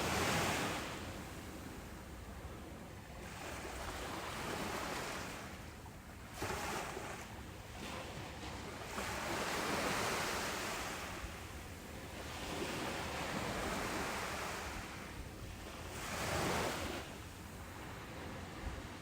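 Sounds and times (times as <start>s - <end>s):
ocean waves washing onto beach: 0.0s - 19.0s.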